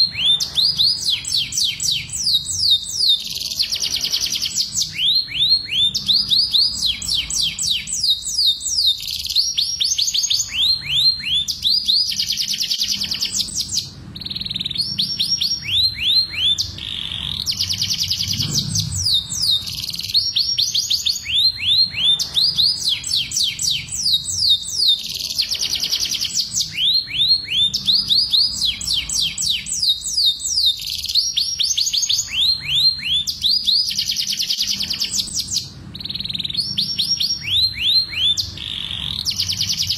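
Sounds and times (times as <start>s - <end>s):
canaries singing fast trills: 0.0s - 39.9s
low background hum: 0.0s - 39.9s.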